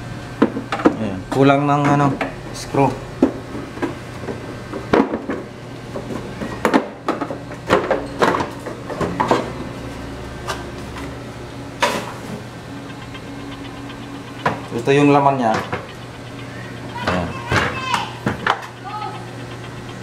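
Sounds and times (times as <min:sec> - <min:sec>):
steady low hum: 0:02.1 - 0:20.0.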